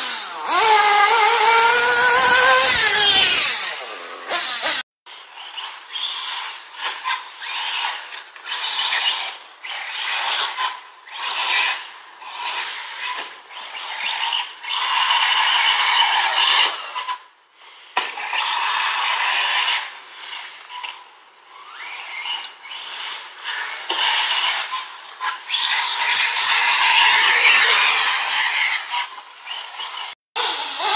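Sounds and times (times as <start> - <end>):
rc car motors whining: 0.0 - 30.9.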